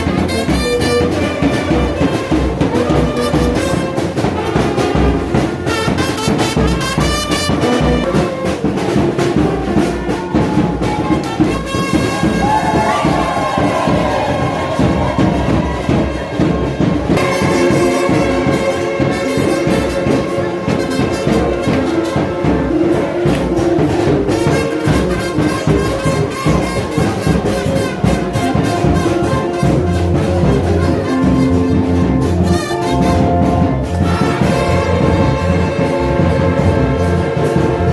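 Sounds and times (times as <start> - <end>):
brass band playing: 0.0 - 37.9.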